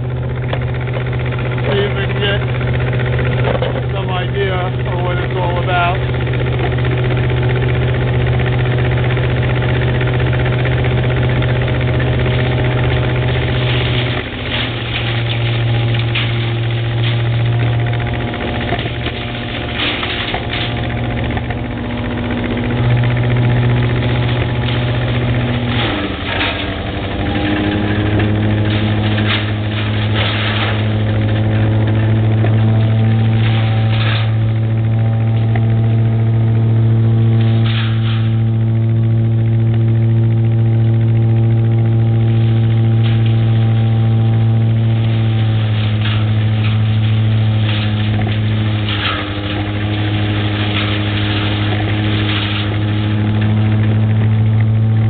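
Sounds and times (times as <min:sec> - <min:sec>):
leaf loader engine running: 0:00.0 - 0:55.0
short rattles: 0:00.0 - 0:55.0.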